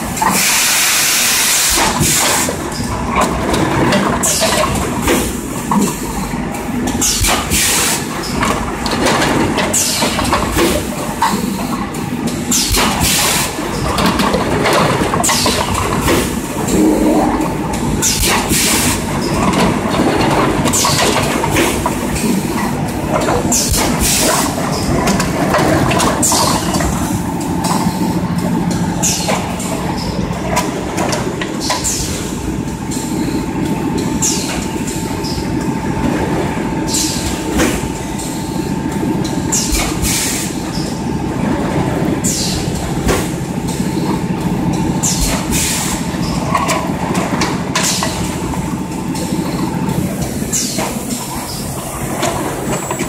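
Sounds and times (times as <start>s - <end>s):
machine clatter: 1.4s - 53.0s.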